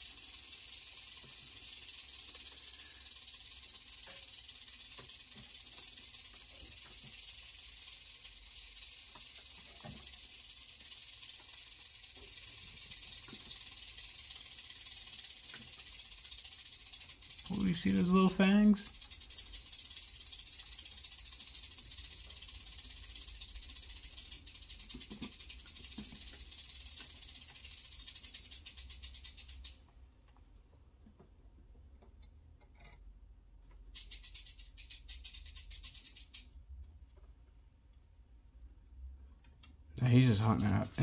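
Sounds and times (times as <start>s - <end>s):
snake tail rattling: 0.0s - 30.7s, 31.8s - 37.4s, 39.2s - 41.0s.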